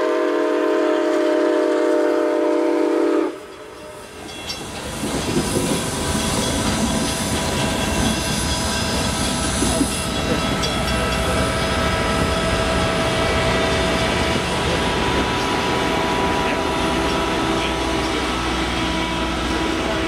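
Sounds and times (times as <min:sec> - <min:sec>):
steel wheels rumbling on rail: 0:00.0 - 0:20.0
high wheel flange squeal: 0:03.5 - 0:20.0.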